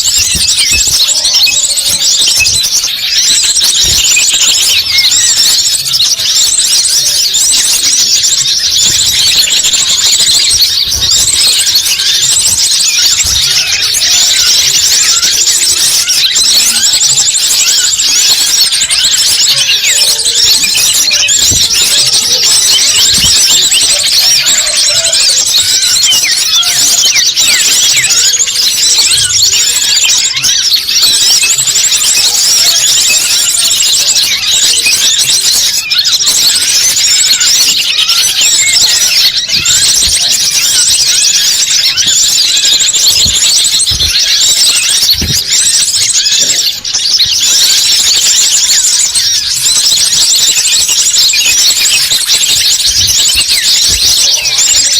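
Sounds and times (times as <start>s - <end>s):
high-pitched bird chirps and trills: 0.0s - 54.9s.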